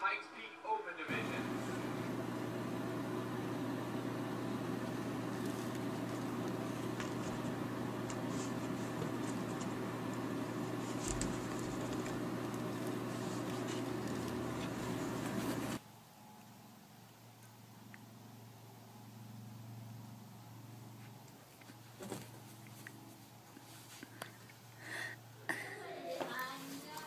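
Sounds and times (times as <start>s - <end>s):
low electrical hum with hiss: 0.0s - 27.0s.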